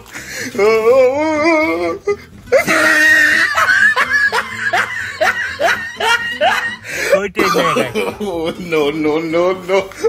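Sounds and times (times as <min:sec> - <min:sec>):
person wailing in mock crying: 0:00.5 - 0:10.0.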